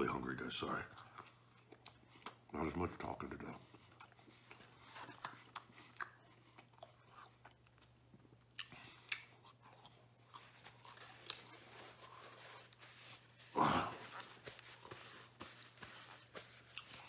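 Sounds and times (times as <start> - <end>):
man chewing with mouth clicks: 0.9 - 2.5, 3.6 - 13.3, 14.0 - 17.0.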